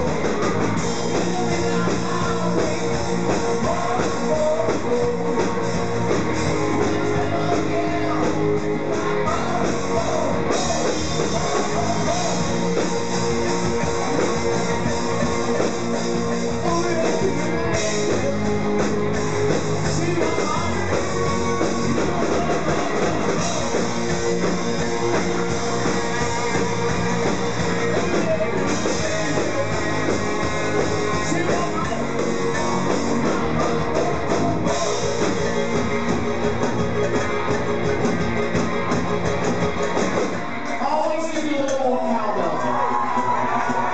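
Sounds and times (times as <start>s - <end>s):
person singing: 0.0s - 38.2s
drums: 0.0s - 43.9s
electric guitars: 0.0s - 43.9s.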